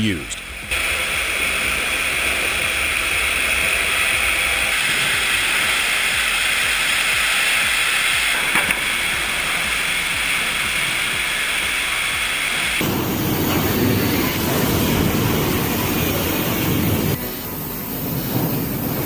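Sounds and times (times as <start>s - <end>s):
sawmill rushing noise: 0.0s - 19.0s.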